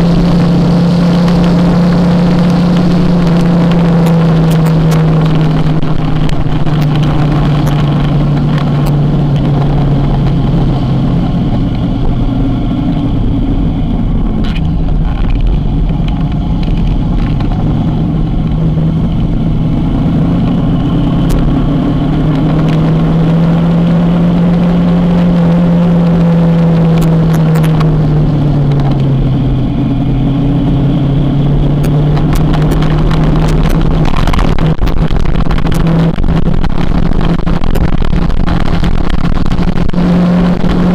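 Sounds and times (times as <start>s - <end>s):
low rush of wind: 0.0s - 40.9s
motorcycle engine running: 0.0s - 40.9s.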